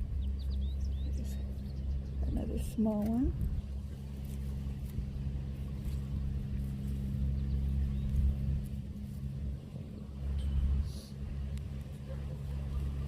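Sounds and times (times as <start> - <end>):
low motor hum: 0.0 - 13.0
low rumble: 0.0 - 13.0.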